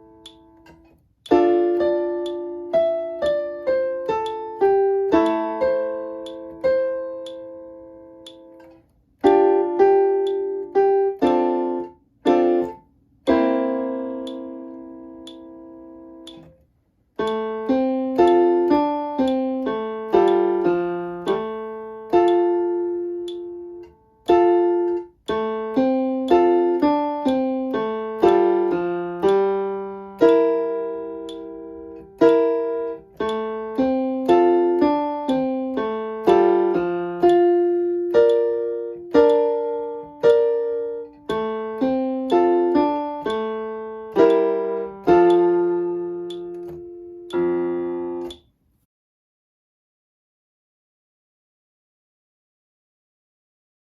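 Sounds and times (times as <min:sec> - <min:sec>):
slow piano piece: 0:00.0 - 0:48.4.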